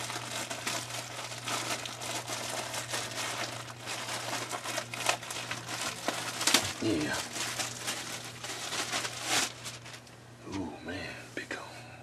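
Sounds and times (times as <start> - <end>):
plastic bag crinkling: 0.0 - 10.2
steady low hum: 0.0 - 12.0.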